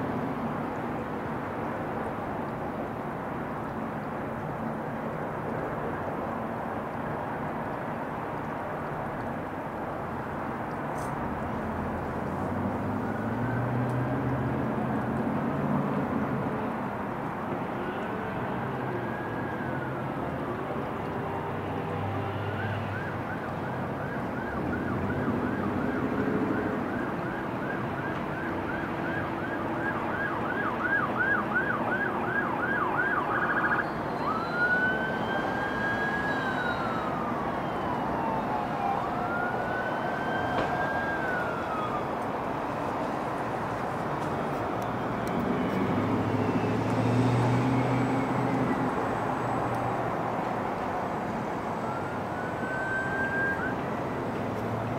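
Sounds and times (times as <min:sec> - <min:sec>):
emergency vehicle siren: 0:00.0 - 0:54.9.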